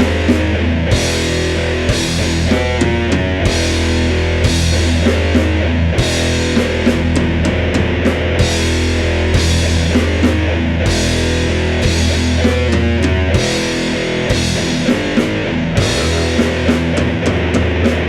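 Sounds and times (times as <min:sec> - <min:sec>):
bass: 0:00.0 - 0:18.0
distorted electric guitars: 0:00.0 - 0:18.0
drum kit: 0:00.0 - 0:18.0.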